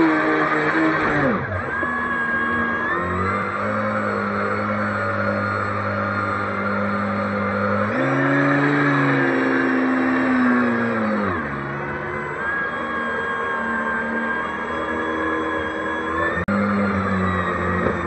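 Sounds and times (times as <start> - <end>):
model boat motor droning: 0.0 - 18.0.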